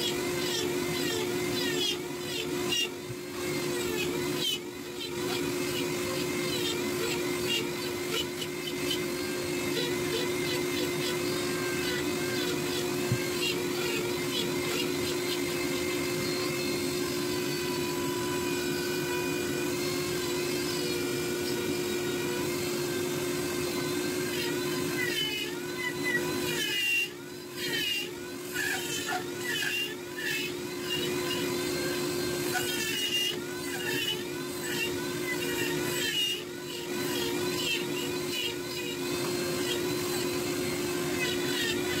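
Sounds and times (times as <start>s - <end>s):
rotary tool whining: 0.0s - 42.0s.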